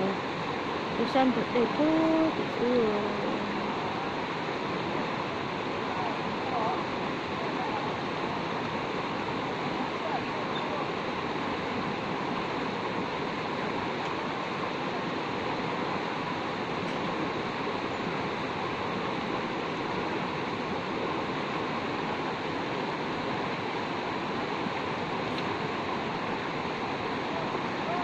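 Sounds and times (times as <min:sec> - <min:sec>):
river rushing over stones: 0:00.0 - 0:28.0.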